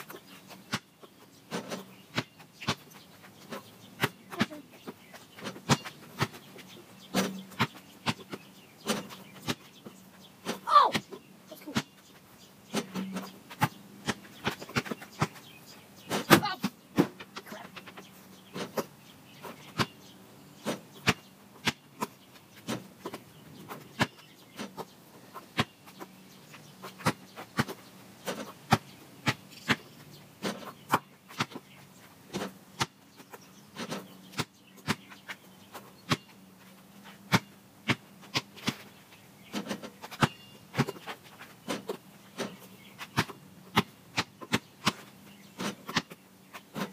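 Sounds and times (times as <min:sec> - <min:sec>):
basketball bouncing on pavement: 0:00.0 - 0:46.9.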